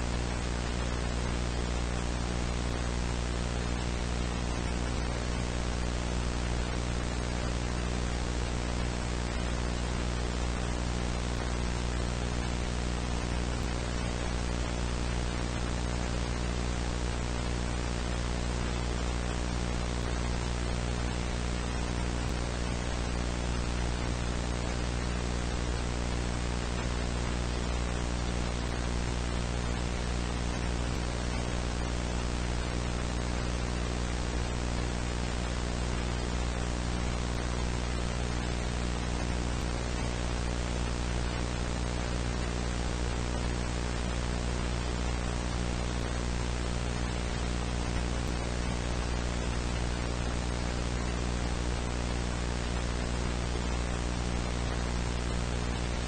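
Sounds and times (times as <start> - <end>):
low buzzing hum: 0.0 - 56.0
static hiss: 0.0 - 56.0.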